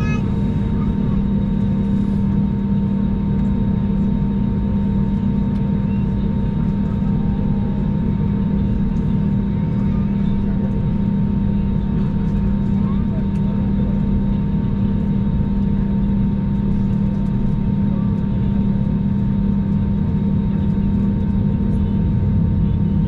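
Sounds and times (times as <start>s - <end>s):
jet engines droning in cabin: 0.0s - 23.0s.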